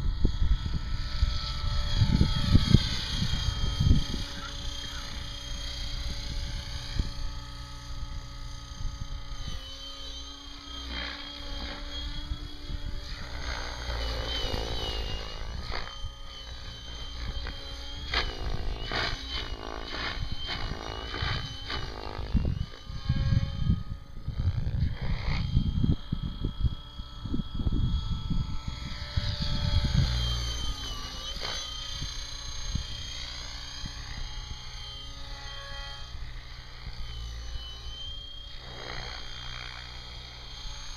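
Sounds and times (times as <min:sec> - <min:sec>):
wind rumble on microphone: 0:00.0 - 0:09.6, 0:11.0 - 0:34.8
model helicopter rotor whine: 0:00.0 - 0:40.9.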